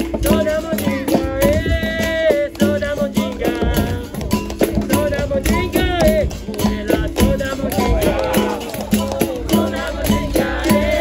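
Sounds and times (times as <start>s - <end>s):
berimbau: 0.0s - 11.0s
hand percussion: 0.0s - 11.0s
voices singing a chant: 0.0s - 11.0s.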